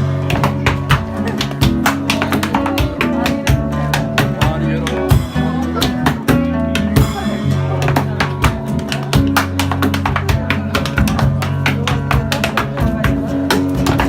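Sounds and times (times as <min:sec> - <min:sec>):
guitar music: 0:00.0 - 0:14.0
steady drumbeat: 0:00.0 - 0:14.0.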